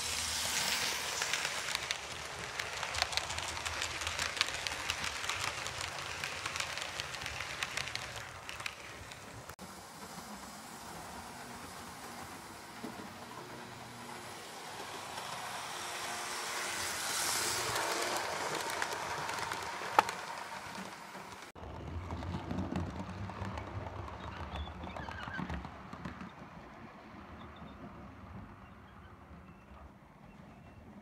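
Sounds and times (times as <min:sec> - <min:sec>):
model train wheels rumbling: 0:00.0 - 0:26.6.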